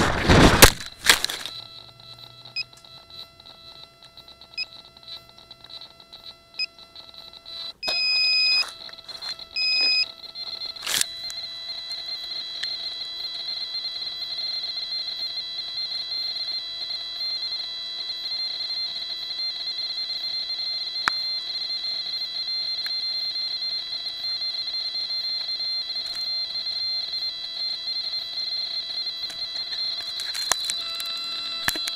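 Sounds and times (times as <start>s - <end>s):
high-pitched electronic alarm tone: 0.0s - 31.9s.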